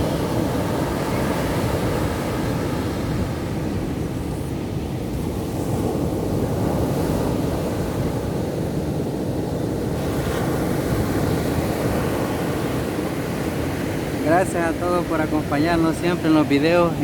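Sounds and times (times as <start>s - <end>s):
ocean surf breaking: 0.0s - 17.0s.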